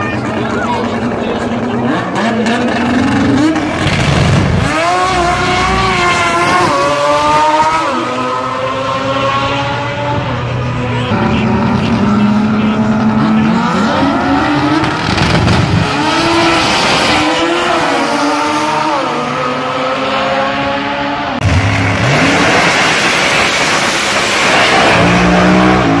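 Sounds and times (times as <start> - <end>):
dragster engines revving: 0.0 - 26.0.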